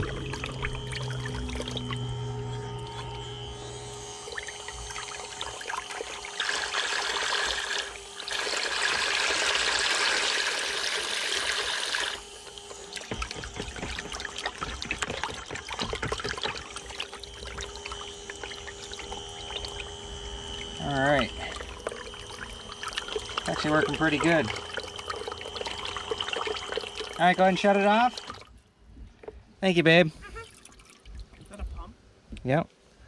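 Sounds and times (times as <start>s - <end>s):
water jet splashing: 0.0s - 28.5s
pump motor hum: 0.0s - 29.3s.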